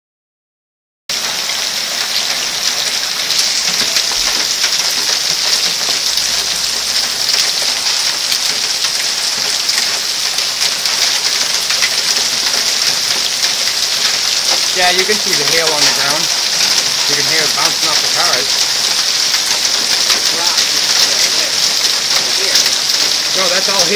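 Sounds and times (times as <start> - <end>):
hail bouncing off cars: 1.1 - 23.9
heavy rain: 1.1 - 23.9.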